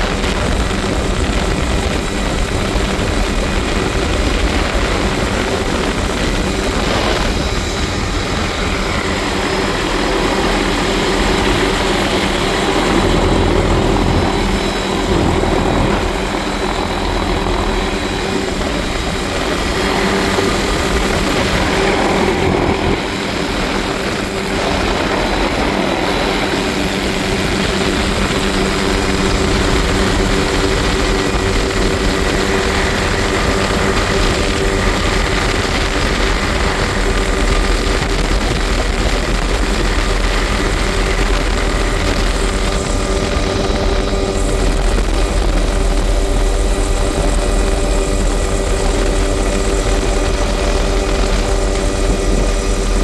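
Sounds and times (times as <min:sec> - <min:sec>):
helicopter rotor and turbine: 0:00.0 - 0:53.0.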